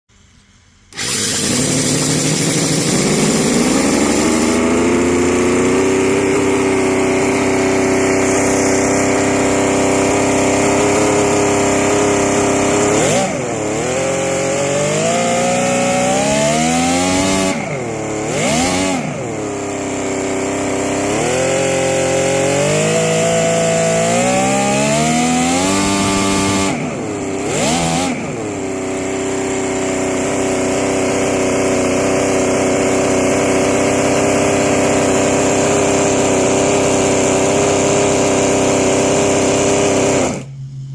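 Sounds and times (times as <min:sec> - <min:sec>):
engine revving: 0:00.9 - 0:40.9.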